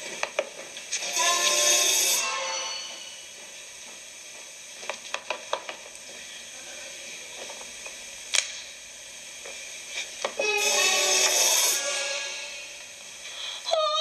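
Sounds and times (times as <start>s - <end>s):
steady hiss of hall: 0.0s - 14.0s.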